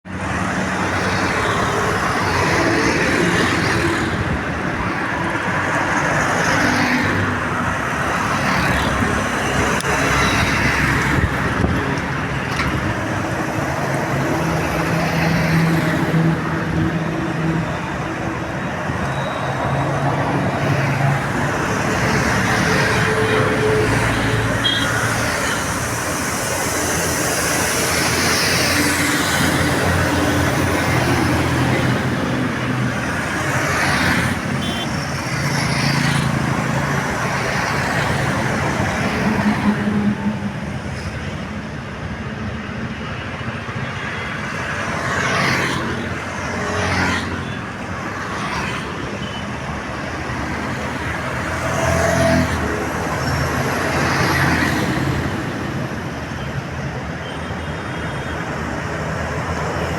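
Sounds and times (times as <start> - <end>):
vehicles driving past: 0.1 - 59.9.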